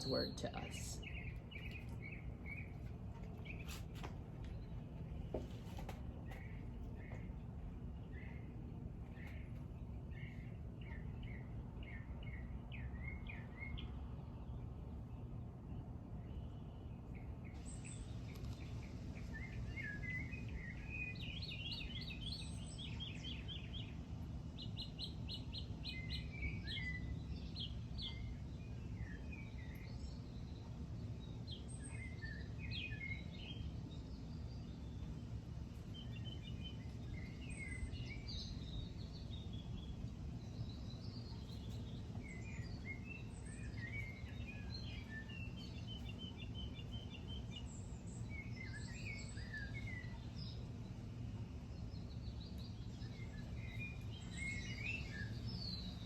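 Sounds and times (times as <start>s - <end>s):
low background rumble: 0.0s - 56.0s
songbirds singing: 0.0s - 56.0s.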